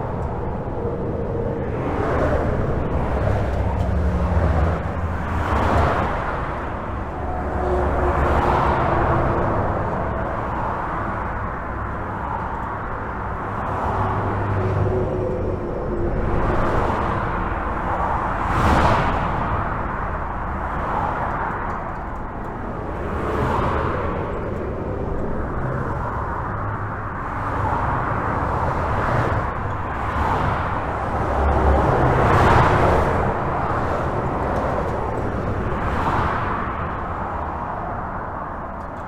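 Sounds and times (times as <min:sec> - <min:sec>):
deep vehicle rumble: 0:00.0 - 0:39.0
highway traffic rush: 0:00.0 - 0:39.0
vehicles passing: 0:00.0 - 0:39.0.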